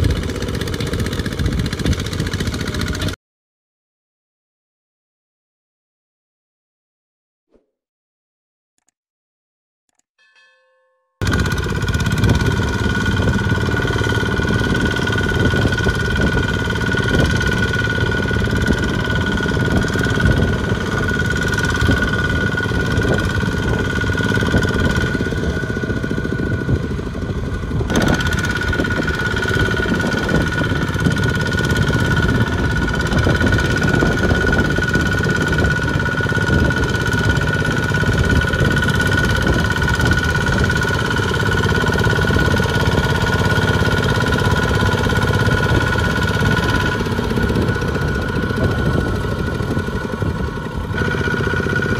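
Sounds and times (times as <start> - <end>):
diesel engine chugging: 0.0 - 3.2, 11.2 - 51.9.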